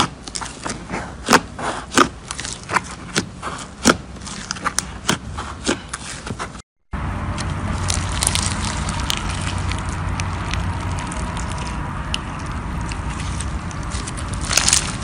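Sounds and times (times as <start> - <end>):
slime squelching: 0.0 - 6.6, 7.3 - 15.0.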